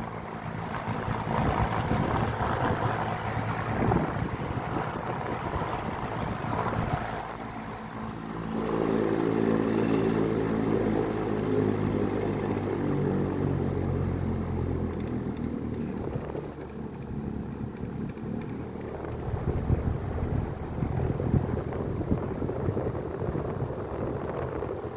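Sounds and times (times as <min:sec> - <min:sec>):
fan motor humming: 0:00.0 - 0:24.9.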